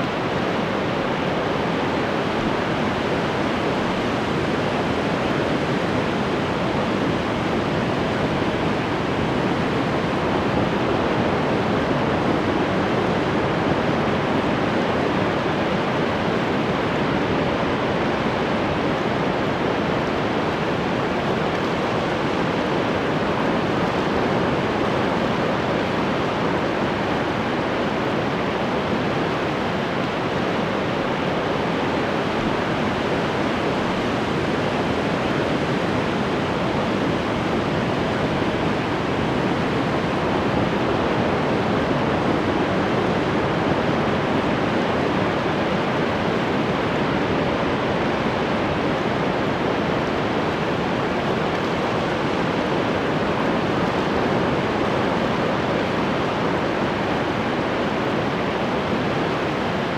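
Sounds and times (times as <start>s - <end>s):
ocean waves washing onto shore: 0.0s - 59.9s.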